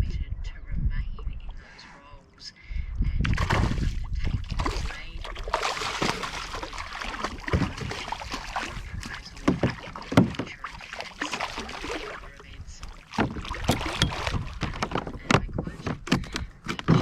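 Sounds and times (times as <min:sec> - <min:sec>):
water splashing around kayak: 0:03.2 - 0:17.0.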